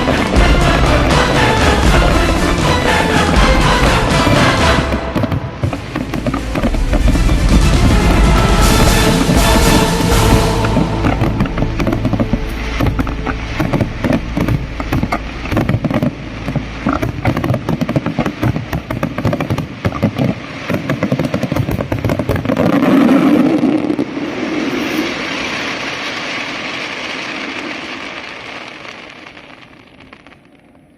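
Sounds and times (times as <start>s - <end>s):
fireworks crackling hiss: 0.0s - 30.9s
fireworks popping and banging: 0.0s - 30.9s.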